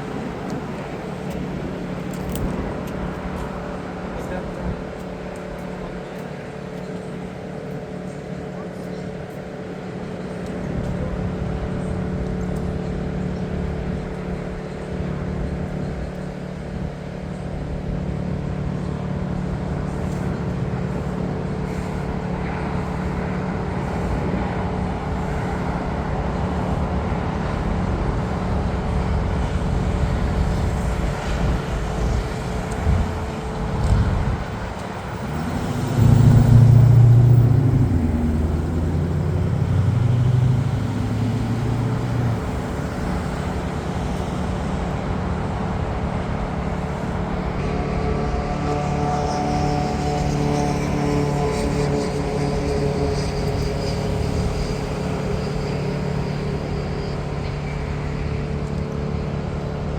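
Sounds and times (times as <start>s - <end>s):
low loud engine sound: 0.0s - 59.9s
steady engine hum: 0.0s - 59.9s
traffic-like noise: 0.0s - 59.9s.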